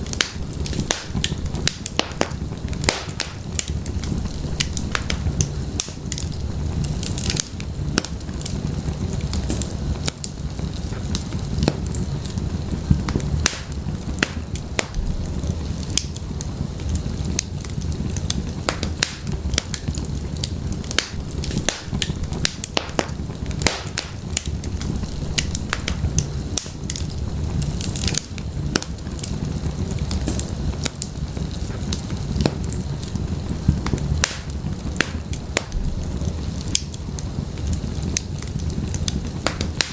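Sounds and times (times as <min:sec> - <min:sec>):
firewood crackling and popping: 0:00.0 - 0:39.9
wood fire burning: 0:00.0 - 0:39.9.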